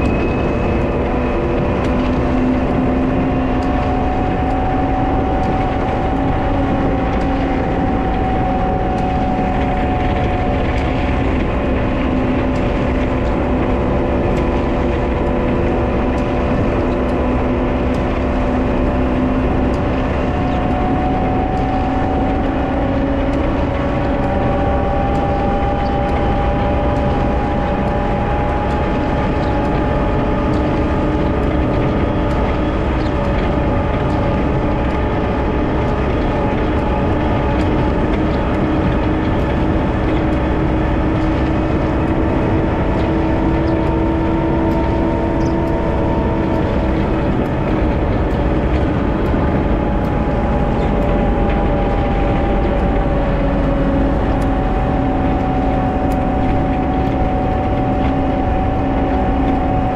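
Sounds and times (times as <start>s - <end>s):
diesel engine running: 0.0s - 59.9s
steady whine: 0.0s - 59.9s.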